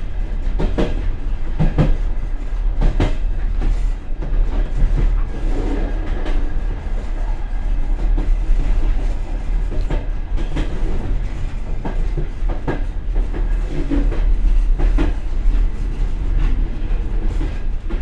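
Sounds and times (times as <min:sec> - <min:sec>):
train car rumble and rattle: 0:00.0 - 0:18.0.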